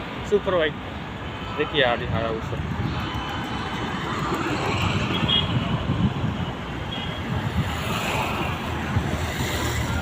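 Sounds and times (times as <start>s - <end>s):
road traffic and engine noise: 0.0s - 10.0s
wind buffeting microphone: 1.9s - 10.0s.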